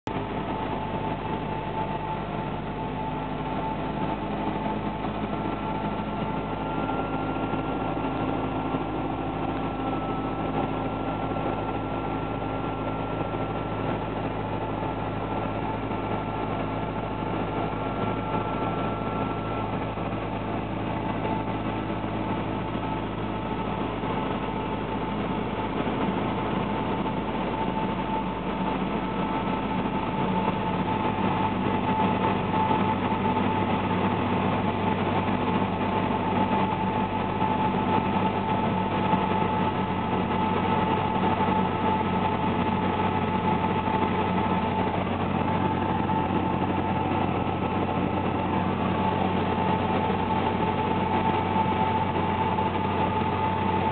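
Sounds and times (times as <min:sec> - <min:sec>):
aircraft engine and propeller drone: 0:00.1 - 0:53.9.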